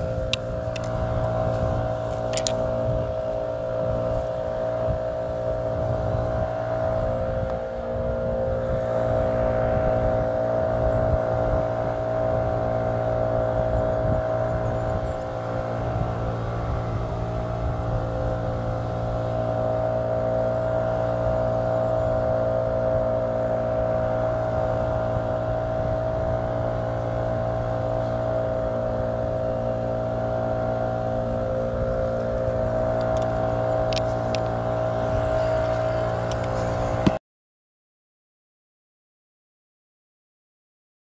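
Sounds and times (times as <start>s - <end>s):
steady mechanical drone: 0.0s - 37.2s.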